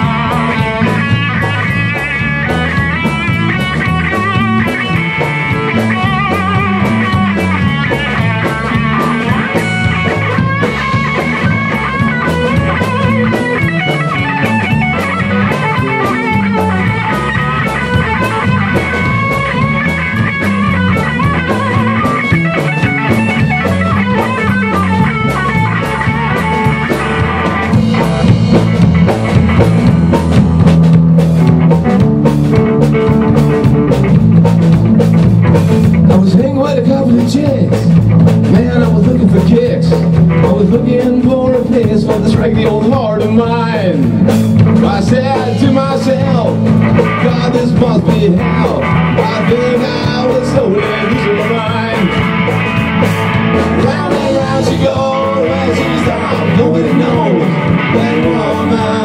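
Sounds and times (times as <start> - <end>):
electric guitar lead lines: 0.0 - 59.0
rock band playing: 0.0 - 59.0.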